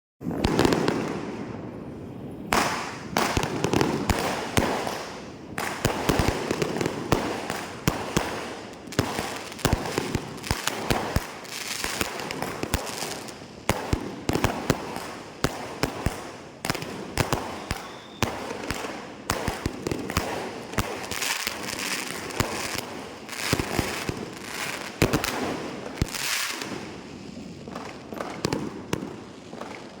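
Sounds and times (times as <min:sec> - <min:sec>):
fireworks bangs and crackles: 0:00.2 - 0:30.0.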